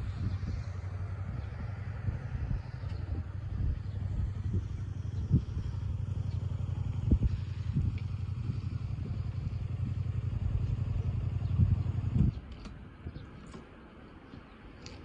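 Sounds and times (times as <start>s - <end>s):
motorcycle engine idling: 0.0s - 13.2s.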